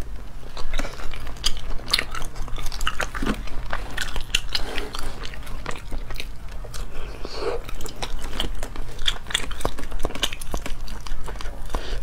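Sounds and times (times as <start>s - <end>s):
chewing with wet mouth clicks: 0.4s - 12.0s.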